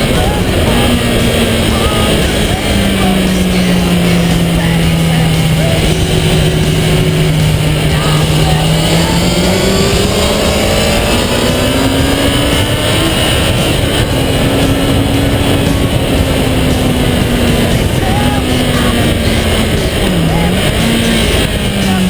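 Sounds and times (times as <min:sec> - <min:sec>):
motorcycle engine accelerating: 0:00.0 - 0:22.0
wind rush: 0:00.0 - 0:22.0.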